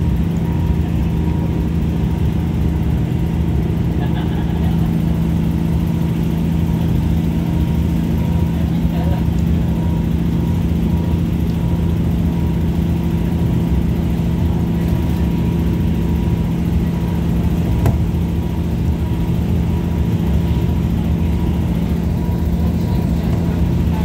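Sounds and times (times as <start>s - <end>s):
train drone from inside carriage: 0.0s - 24.0s.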